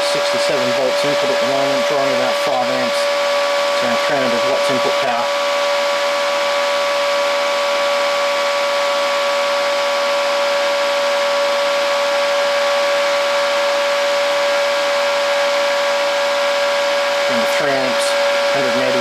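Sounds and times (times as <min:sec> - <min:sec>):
cooling fan rushing: 0:00.0 - 0:19.0
mid-pitched whine: 0:00.0 - 0:19.0.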